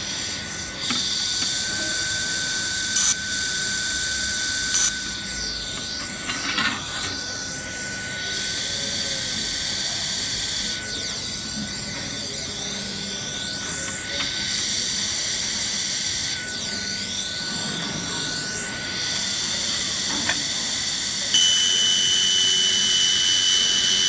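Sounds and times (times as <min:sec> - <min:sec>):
laser welder hiss and whine: 0:00.0 - 0:24.0.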